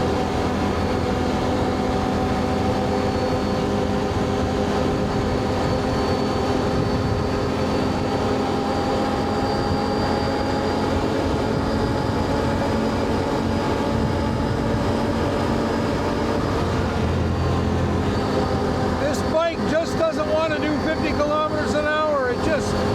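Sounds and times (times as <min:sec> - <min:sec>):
atv engine running: 0:00.0 - 0:22.9
low rumble of travel: 0:00.0 - 0:22.9.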